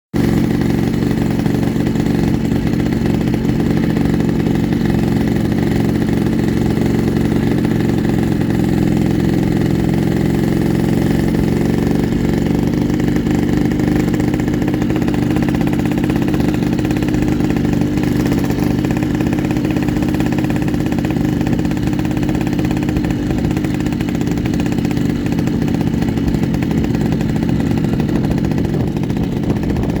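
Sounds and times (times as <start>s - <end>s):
two-stroke motorcycle engine running: 0.1s - 30.0s.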